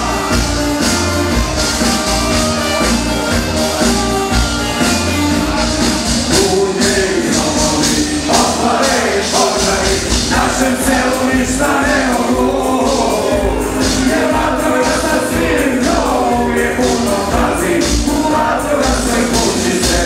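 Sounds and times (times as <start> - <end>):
drums with cymbal beat: 0.0 - 20.0
guitar: 0.0 - 20.0
live rock band: 0.0 - 20.0
person singing: 0.0 - 20.0.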